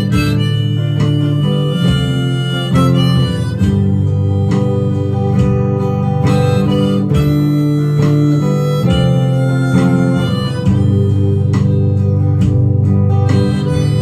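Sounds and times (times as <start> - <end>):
acoustic guitar strumming: 0.0 - 14.0
harmonica long held notes: 0.0 - 14.0.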